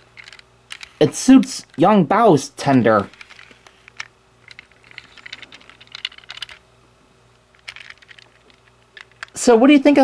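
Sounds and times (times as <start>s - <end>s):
toy train plastic clicks and rattles: 0.0s - 6.6s, 7.5s - 9.4s.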